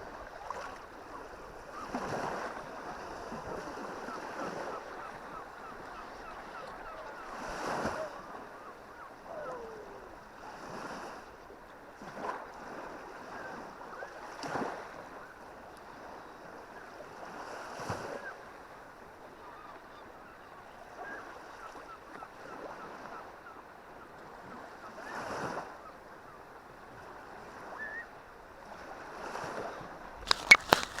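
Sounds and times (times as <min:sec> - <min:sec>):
small waves washing ashore: 0:00.0 - 0:31.0.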